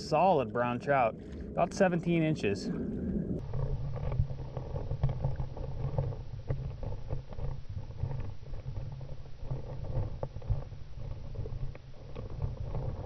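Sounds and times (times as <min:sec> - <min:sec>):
muffled underwater rumble: 0:00.0 - 0:13.0.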